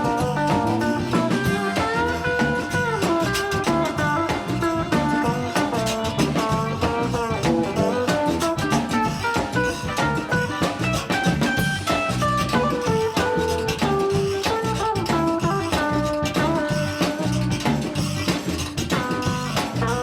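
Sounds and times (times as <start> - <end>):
instrumental jazz swing music: 0.0 - 20.0.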